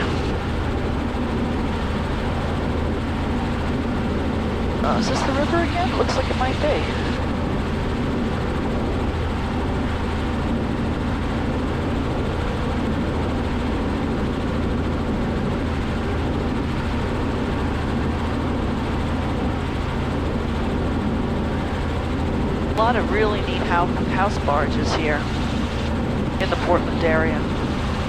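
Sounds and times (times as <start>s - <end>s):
helicopter engine and rotor drone: 0.0s - 28.0s.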